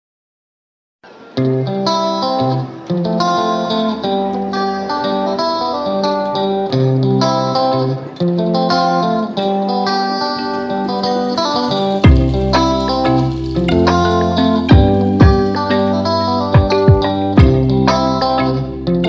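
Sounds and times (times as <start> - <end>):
guitar plucking a melody: 1.0 - 19.0.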